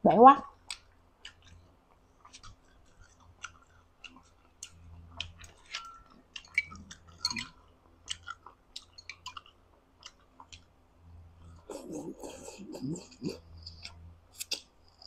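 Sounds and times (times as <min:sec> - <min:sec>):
person chewing with mouth clicks: 0:00.6 - 0:10.7, 0:11.4 - 0:15.0.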